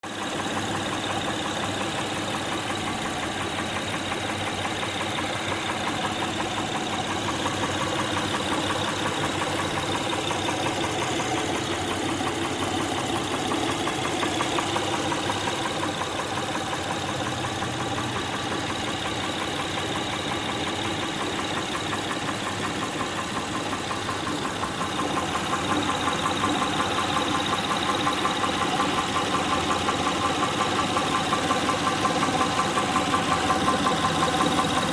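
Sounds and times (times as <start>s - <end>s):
car engine running: 0.1s - 34.9s
rhythmic engine knock: 0.1s - 34.9s.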